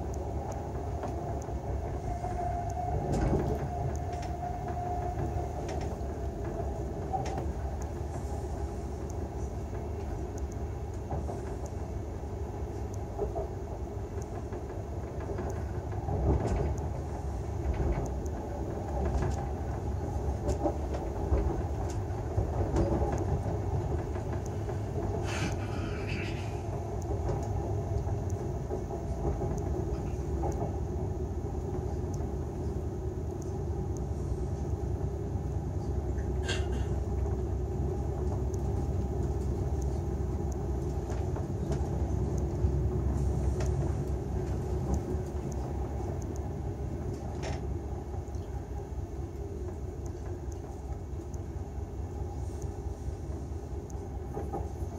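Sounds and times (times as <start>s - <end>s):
train rumbling on track: 0.0s - 54.9s.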